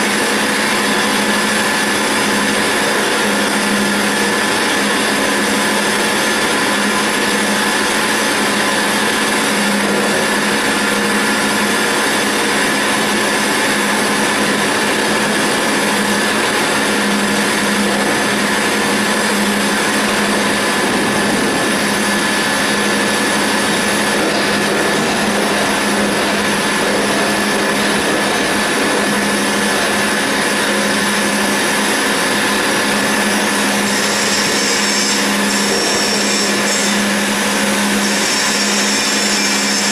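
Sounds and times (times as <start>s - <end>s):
lathe cutting steel: 0.0s - 39.9s.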